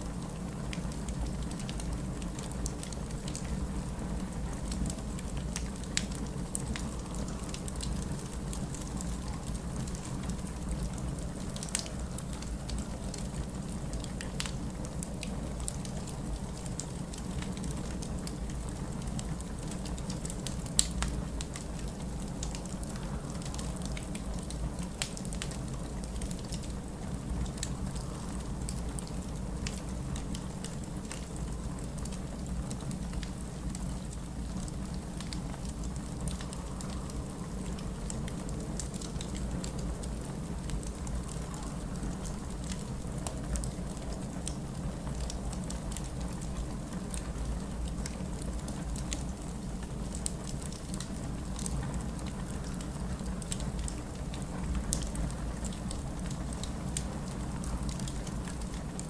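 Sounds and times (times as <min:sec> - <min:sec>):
wood fire crackling and popping: 0:00.1 - 0:59.0.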